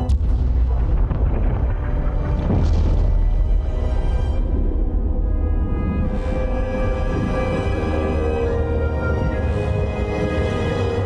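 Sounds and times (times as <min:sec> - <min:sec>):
deep rumble: 0:00.0 - 0:11.0
music: 0:00.0 - 0:11.0.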